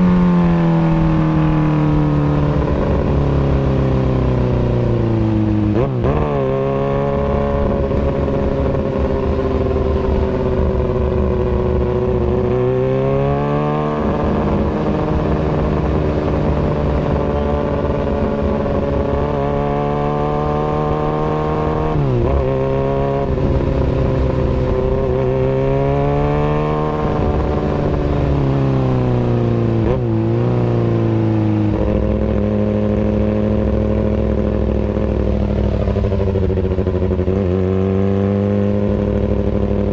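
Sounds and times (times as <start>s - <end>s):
motorcycle engine running loudly: 0.0s - 39.9s.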